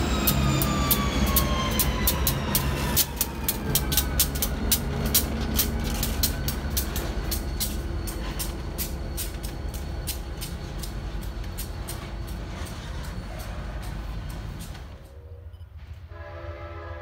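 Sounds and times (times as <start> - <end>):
train wheels clicking on rail joints: 0.0 - 16.2
train rumbling past: 0.0 - 17.0.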